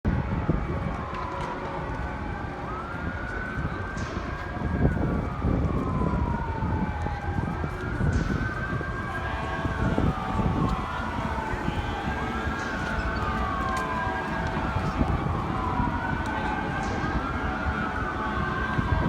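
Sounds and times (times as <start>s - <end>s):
engine and traffic rumble: 0.1s - 19.0s
fire truck siren wailing: 0.1s - 19.0s.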